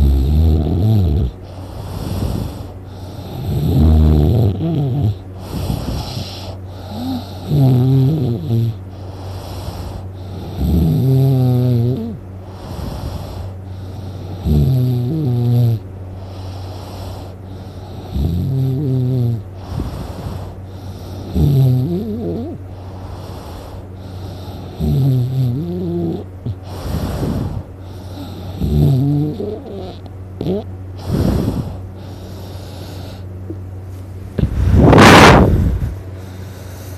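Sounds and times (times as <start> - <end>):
person snoring loudly: 0.0 - 33.2
breathy breaths: 1.2 - 15.2, 16.0 - 36.9.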